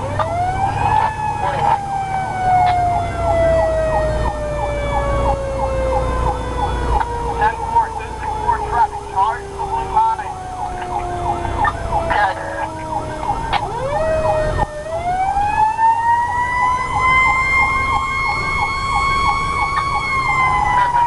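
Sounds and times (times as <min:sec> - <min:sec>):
wailing siren: 0:00.0 - 0:21.0
yelping siren: 0:00.0 - 0:21.0.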